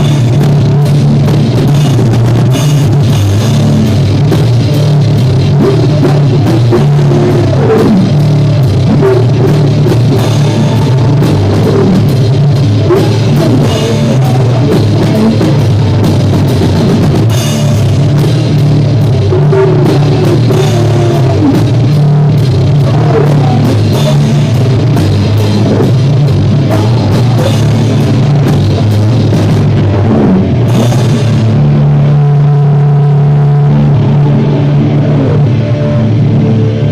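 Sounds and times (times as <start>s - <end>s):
drum kit with cymbals: 0.0s - 33.6s
bass guitar: 0.0s - 36.9s
distorted electric guitar: 0.0s - 36.9s.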